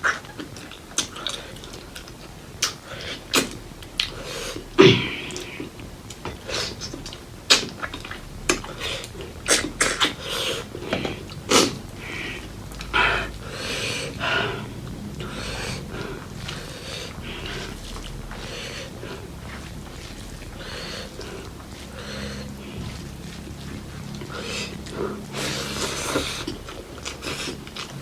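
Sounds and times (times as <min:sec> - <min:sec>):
mouth chewing sounds: 0:00.0 - 0:28.0.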